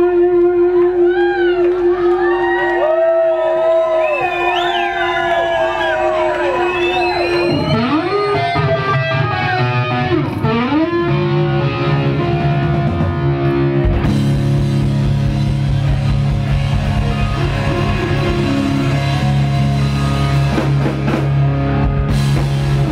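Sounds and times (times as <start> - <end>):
electric guitar bending notes: 0.0 - 2.4, 6.5 - 22.9
live rock band: 3.8 - 22.9
drums: 4.0 - 22.9.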